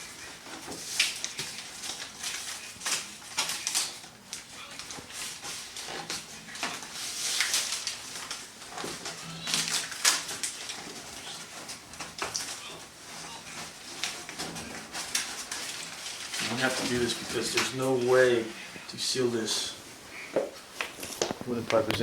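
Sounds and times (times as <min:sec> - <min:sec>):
foil tape crinkling and scratching: 0:00.0 - 0:18.5.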